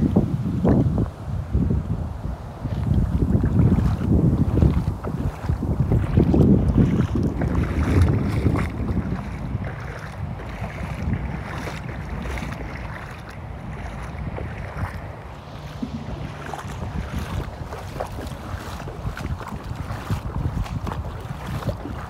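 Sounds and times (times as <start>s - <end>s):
wind rumbling on microphone: 0.0s - 22.0s
footsteps sloshing in water: 2.6s - 22.0s.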